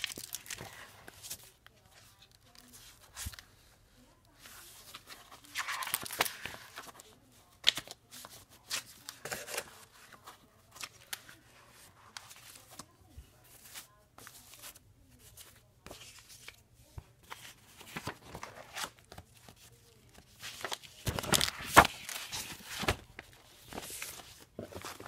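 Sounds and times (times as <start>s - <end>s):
plastic folder rustling: 0.0s - 3.7s, 4.3s - 25.0s.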